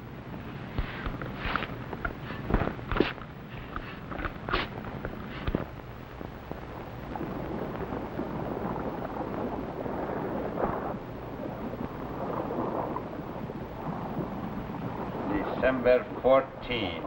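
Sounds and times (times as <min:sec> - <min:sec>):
wind and sea rushing: 0:00.0 - 0:17.0.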